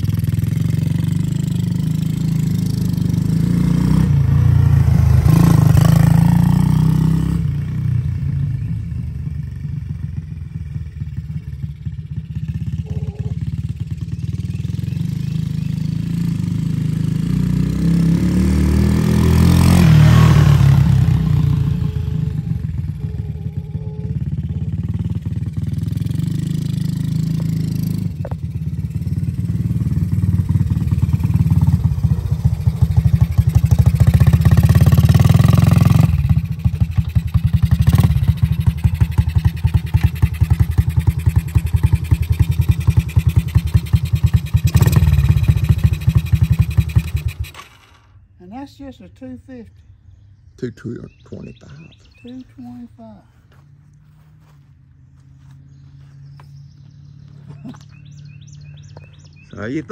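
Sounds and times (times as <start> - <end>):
single-cylinder engine running: 0.0 - 48.2.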